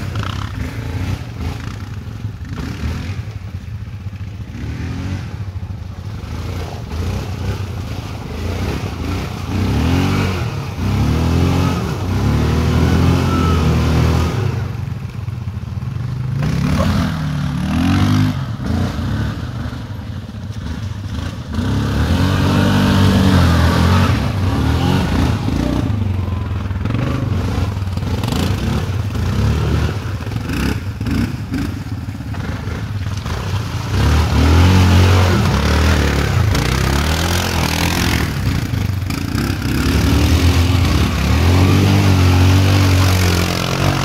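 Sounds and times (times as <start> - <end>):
quad engine revving: 0.0 - 3.5, 4.3 - 15.2, 16.1 - 44.0.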